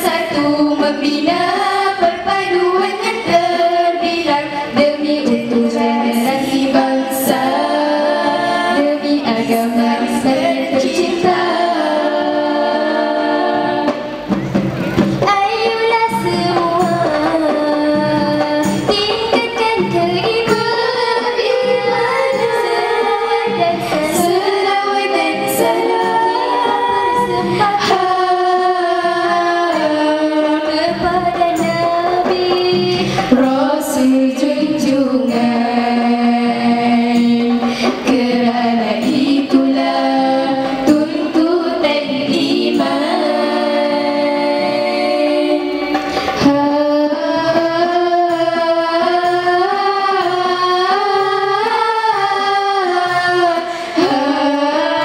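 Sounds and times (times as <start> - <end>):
women singing together: 0.0 - 14.4, 15.0 - 55.0
percussion: 0.0 - 55.0
sharp percussion hits: 0.0 - 55.0.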